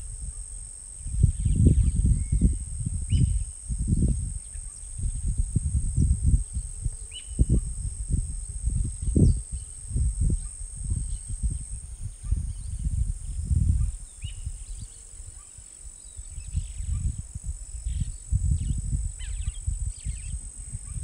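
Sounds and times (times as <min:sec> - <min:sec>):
insects droning: 0:00.0 - 0:21.0
wind rumbling on microphone: 0:00.0 - 0:21.0.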